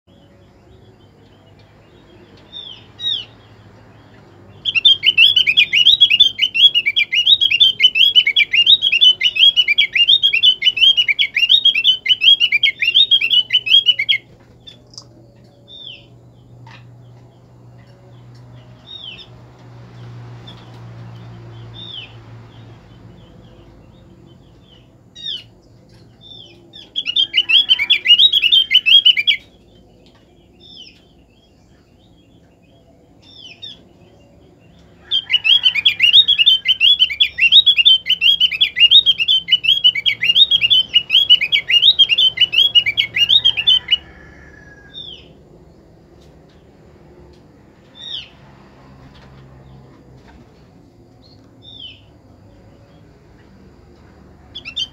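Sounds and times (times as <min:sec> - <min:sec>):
bird twittering song: 0:00.0 - 0:46.6, 0:51.2 - 0:54.9.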